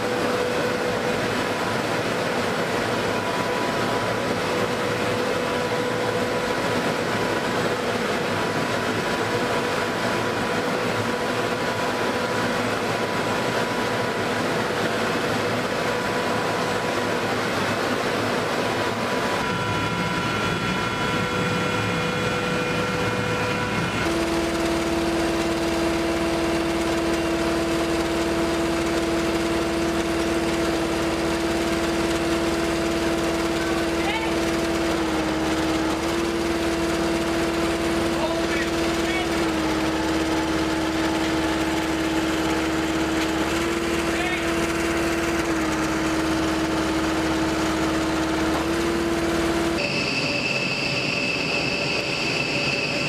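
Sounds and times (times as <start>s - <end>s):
lower-pitched hum: 0.0s - 53.0s
small engine drone: 0.0s - 53.0s.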